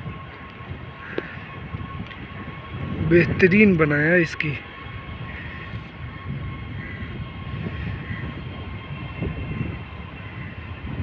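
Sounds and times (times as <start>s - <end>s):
aircraft whine: 0.0s - 11.0s
low rumble: 0.0s - 11.0s.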